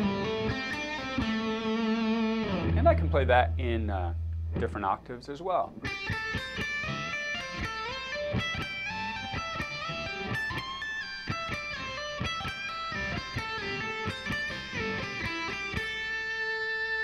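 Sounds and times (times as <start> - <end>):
electric guitar picked notes: 0.0 - 4.8, 5.7 - 17.0.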